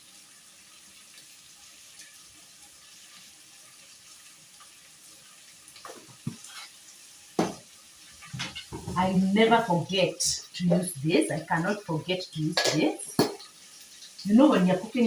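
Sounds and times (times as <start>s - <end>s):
stew sizzling in a pot: 0.0s - 15.0s.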